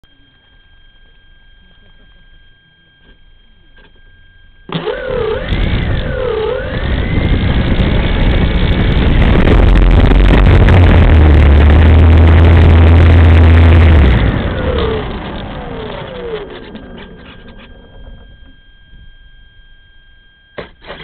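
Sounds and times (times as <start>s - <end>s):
electric motor and propeller whine: 3.4s - 21.0s.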